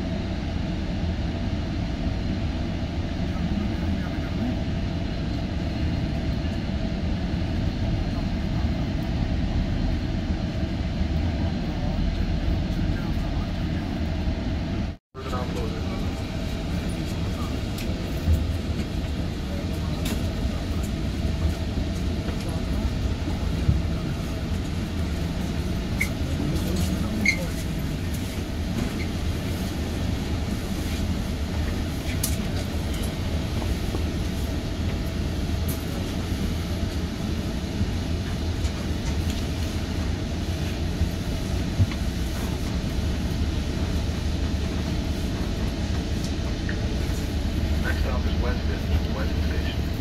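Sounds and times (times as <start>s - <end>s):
train rumble inside coach: 0.0s - 50.0s.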